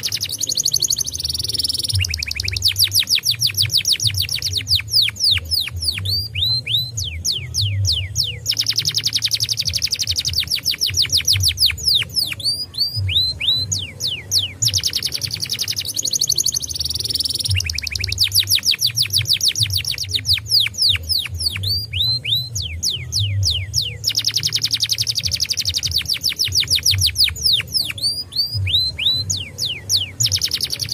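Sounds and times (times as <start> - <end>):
canary singing trills: 0.0 - 30.9.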